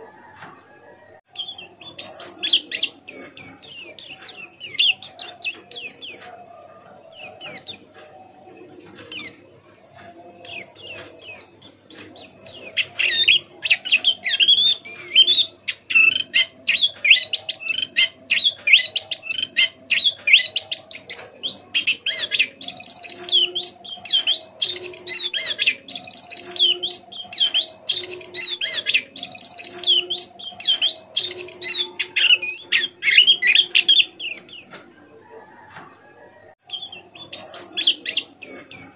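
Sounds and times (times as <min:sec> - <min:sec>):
bird twittering chatter: 0:01.3 - 0:06.4, 0:07.1 - 0:08.0, 0:09.0 - 0:34.8, 0:36.6 - 0:38.9.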